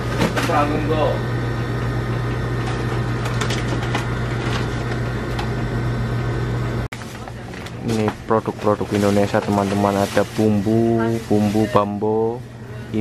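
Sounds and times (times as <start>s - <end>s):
refrigerated freezers humming: 0.0s - 13.0s.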